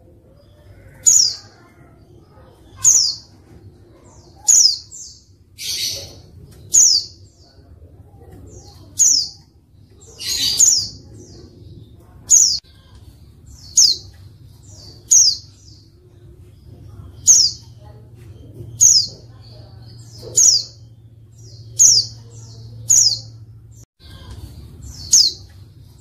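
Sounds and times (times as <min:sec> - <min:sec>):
bird chirping: 0:00.0 - 0:26.0
faint low hum: 0:00.0 - 0:26.0.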